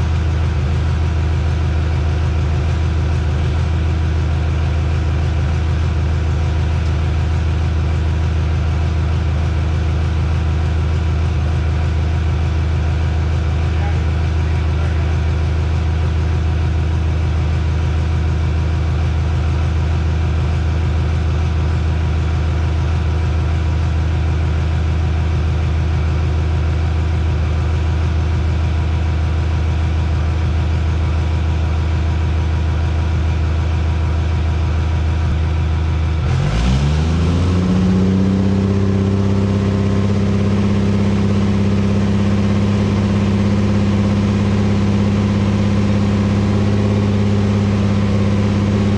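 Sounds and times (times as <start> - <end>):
diesel truck engine idling: 0.0 - 48.9.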